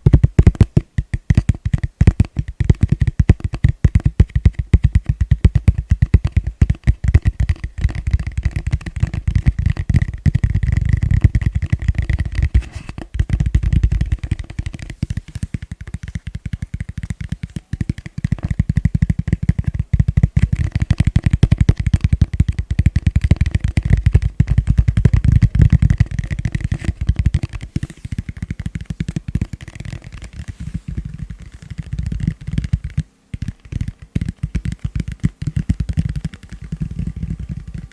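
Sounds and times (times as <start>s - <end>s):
fast tapping on plastic bowl: 0.0s - 37.9s.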